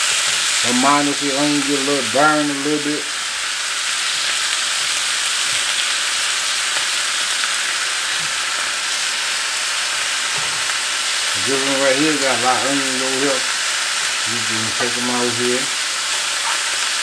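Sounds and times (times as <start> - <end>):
sausages and onions sizzling: 0.0 - 17.0.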